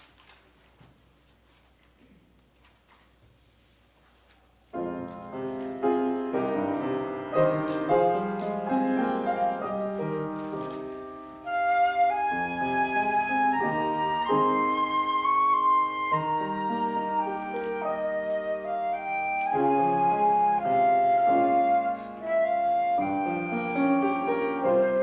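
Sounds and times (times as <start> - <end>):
piano chords: 4.7 - 25.0
flute melody: 4.8 - 25.0.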